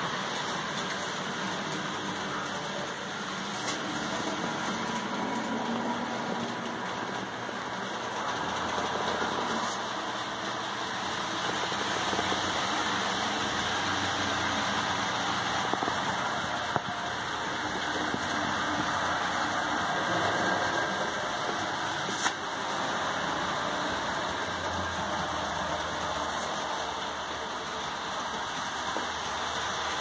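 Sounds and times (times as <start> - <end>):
model train motor whirring: 0.0 - 30.0.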